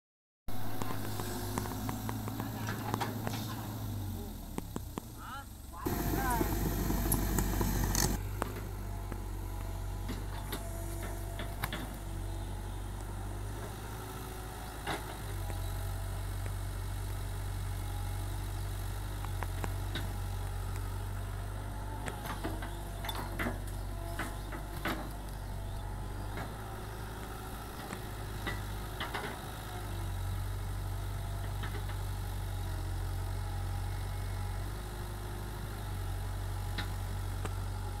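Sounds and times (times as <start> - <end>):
excavator diesel engine running: 0.5 - 38.0.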